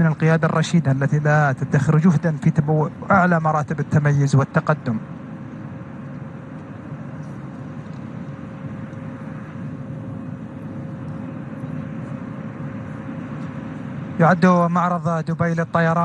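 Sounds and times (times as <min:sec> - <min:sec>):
high whine: 0:00.0 - 0:16.0
jet aircraft rumble: 0:00.0 - 0:16.0.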